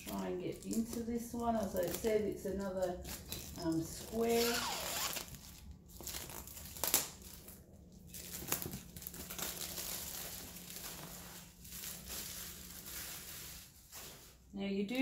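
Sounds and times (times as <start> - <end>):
plastic shrink-wrap crinkling: 0.0 - 15.0.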